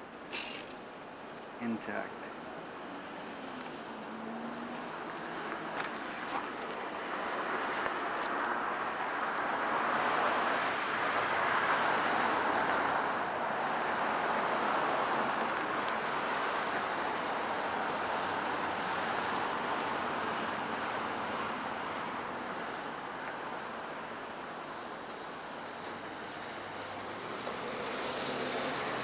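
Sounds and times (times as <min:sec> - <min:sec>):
road traffic rushing: 0:00.0 - 0:29.0.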